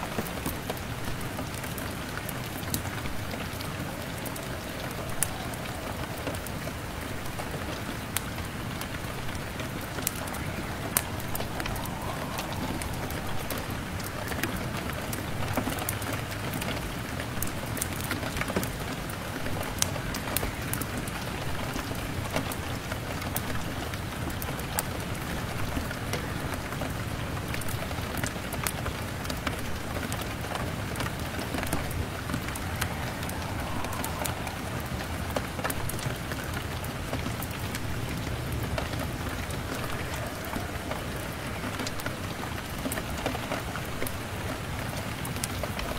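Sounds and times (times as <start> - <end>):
crackling fire: 0.0 - 45.9
rain on window pane: 0.0 - 45.9.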